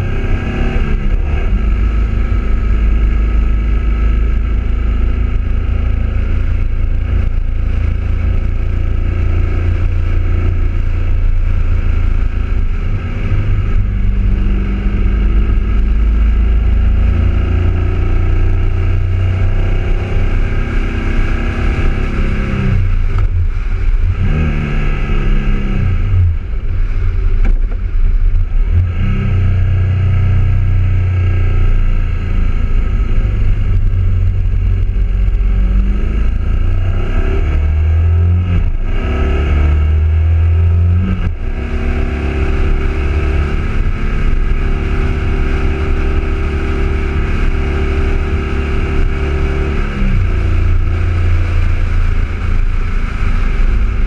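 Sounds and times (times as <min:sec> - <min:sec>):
motorcycle engine running: 0:00.0 - 0:36.9, 0:40.0 - 0:54.0
wind rumble on microphone: 0:00.0 - 0:54.0.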